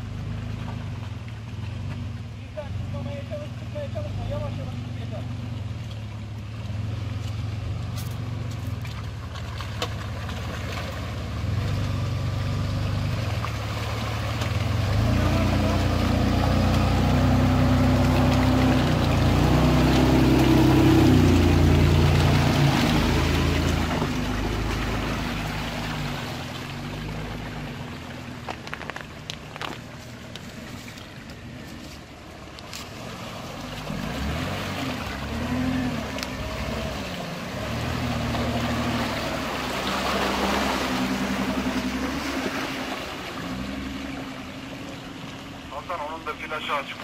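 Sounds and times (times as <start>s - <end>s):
vehicle engine under load: 0.0s - 47.0s.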